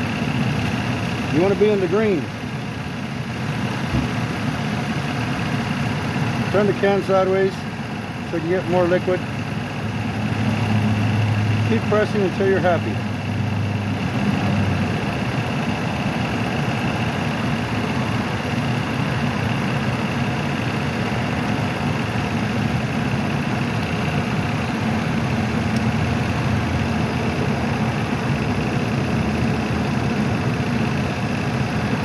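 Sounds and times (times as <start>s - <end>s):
air-conditioning compressor running: 0.0s - 32.0s
car engine idling: 0.0s - 32.0s.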